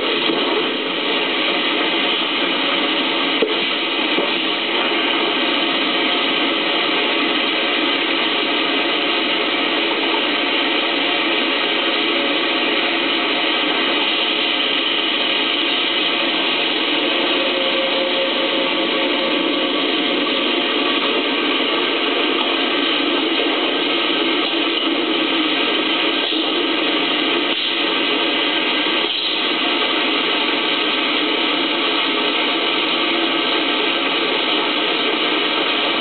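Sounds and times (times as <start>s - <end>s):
machinery running: 0.0s - 36.0s.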